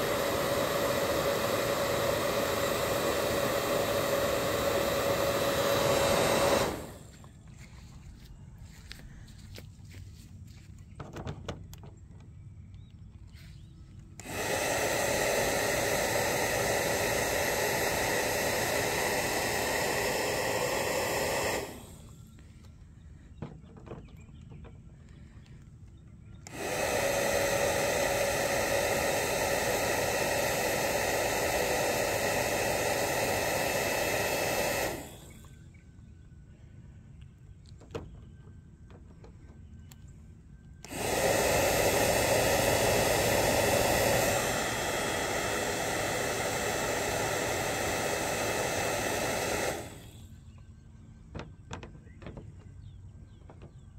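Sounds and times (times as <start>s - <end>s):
fan motor whirring: 0.0s - 53.9s.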